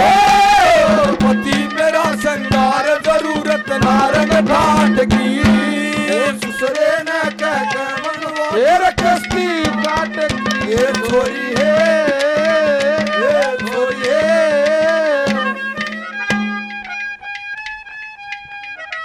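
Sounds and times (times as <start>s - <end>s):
pitch-bending folk melody: 0.0s - 19.0s.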